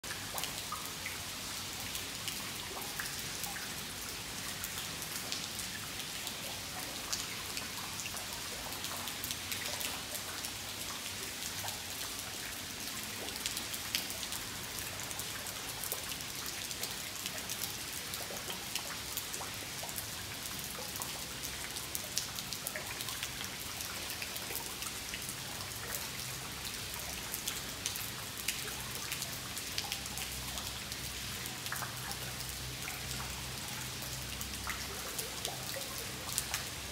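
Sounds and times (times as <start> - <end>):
rain falling on stone paving: 0.0 - 36.9.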